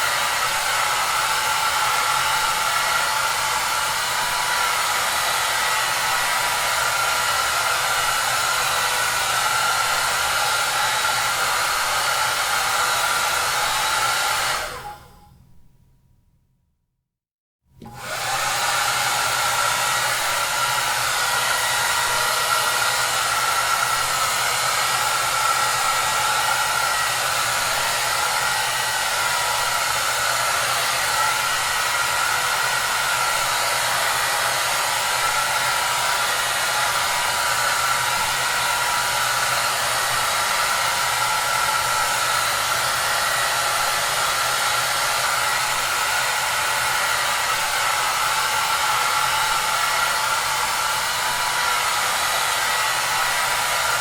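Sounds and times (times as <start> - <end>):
hair dryer running: 0.0 - 15.3, 17.8 - 54.0.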